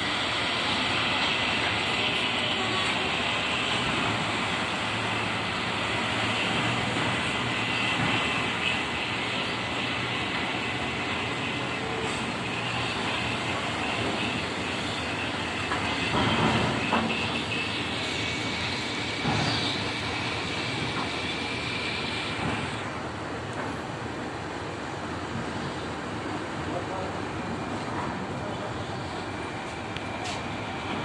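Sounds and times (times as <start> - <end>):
truck and ferry engines running: 0.0 - 31.0.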